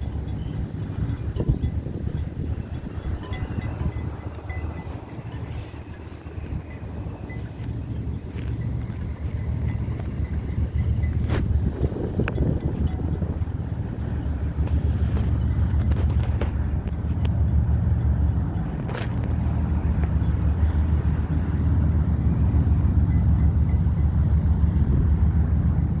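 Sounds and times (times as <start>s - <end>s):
ship engines droning: 0.0s - 26.0s
wind buffeting microphone: 0.0s - 26.0s.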